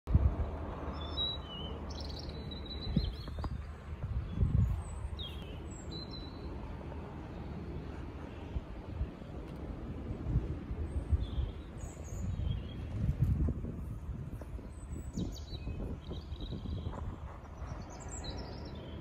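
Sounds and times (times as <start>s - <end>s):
small birds chirping: 0.9s - 9.6s, 10.7s - 19.0s.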